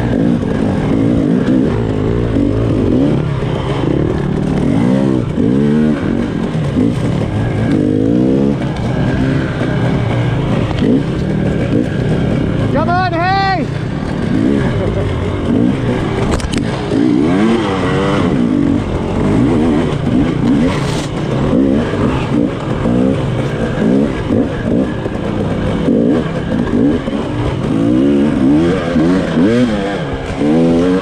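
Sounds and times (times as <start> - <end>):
steady low rumble: 0.0 - 30.4
motorcycle engine revving: 0.0 - 31.0.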